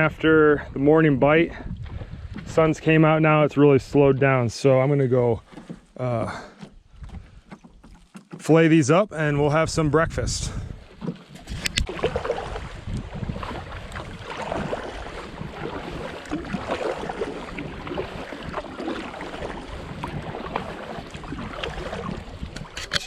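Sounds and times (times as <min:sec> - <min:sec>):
wind buffeting microphone: 0:00.0 - 0:04.5, 0:06.8 - 0:07.5, 0:09.2 - 0:23.0
water lapping against canoe: 0:00.0 - 0:09.0, 0:09.6 - 0:23.0.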